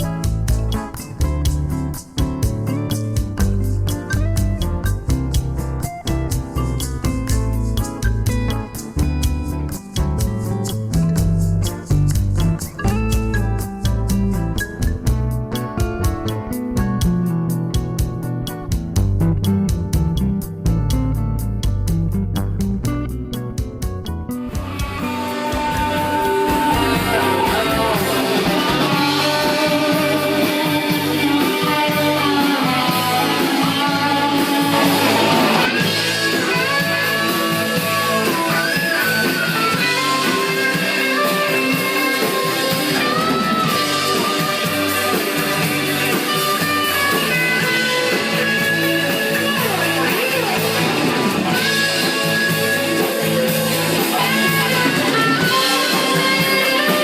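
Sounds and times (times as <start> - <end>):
band playing instrumental: 0.0 - 57.0
guitar notes bending in pitch: 0.0 - 57.0.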